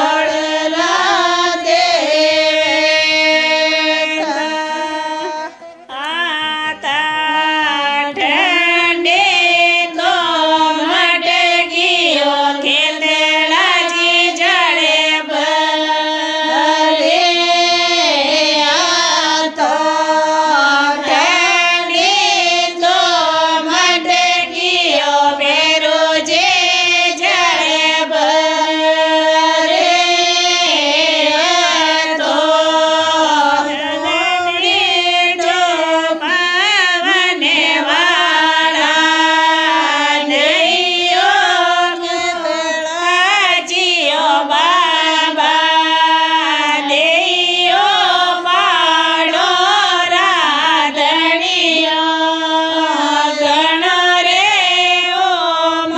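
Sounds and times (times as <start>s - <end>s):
women singing folk song: 0.0s - 55.9s.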